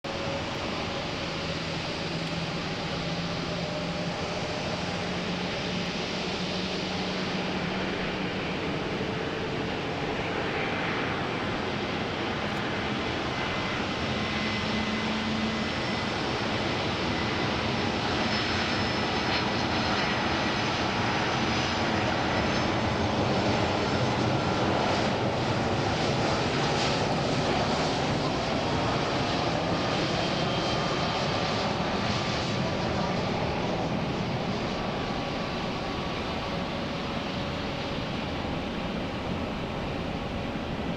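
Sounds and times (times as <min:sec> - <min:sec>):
jet engines roaring on approach: 0:00.0 - 0:40.9.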